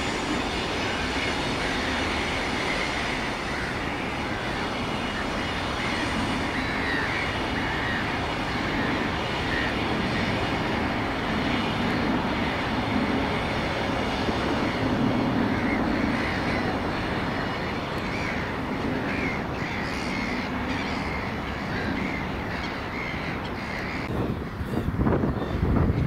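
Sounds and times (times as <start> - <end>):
birds calling: 0.0 - 26.0
diesel locomotive rumbling past: 0.0 - 26.0.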